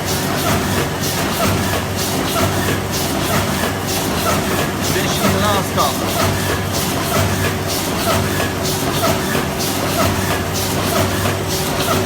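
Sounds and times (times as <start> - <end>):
bindery machine clatter and thump: 0.0 - 12.0.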